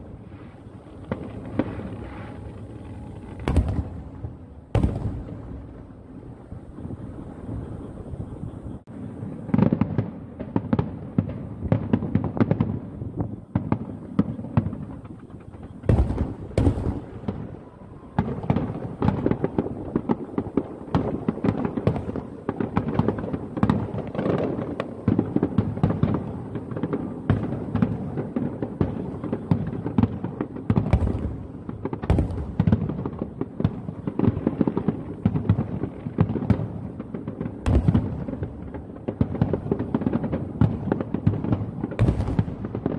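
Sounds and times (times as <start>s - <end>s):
fireworks booming and crackling: 0.0s - 42.9s
loud fireworks bangs: 0.0s - 42.9s.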